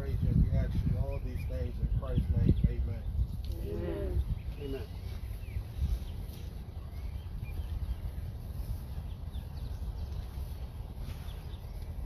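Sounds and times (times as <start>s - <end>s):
birds chirping faintly: 0.0s - 12.0s
wind rumbling on microphone: 0.0s - 12.0s.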